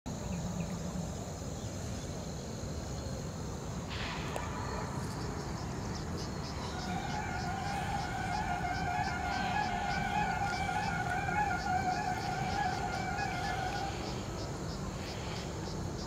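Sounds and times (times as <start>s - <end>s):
faint high insect drone: 0.1s - 16.0s.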